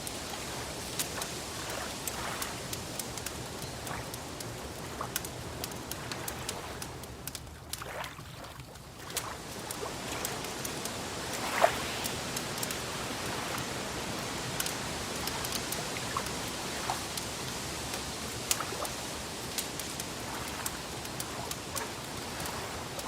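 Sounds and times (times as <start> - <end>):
fire popping and snapping: 0.0 - 23.0.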